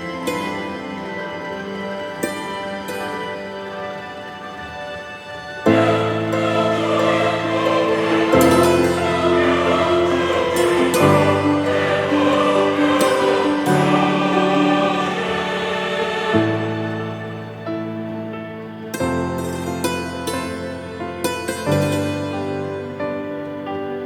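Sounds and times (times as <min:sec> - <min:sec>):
slow sustained choral chords: 0:00.0 - 0:23.9.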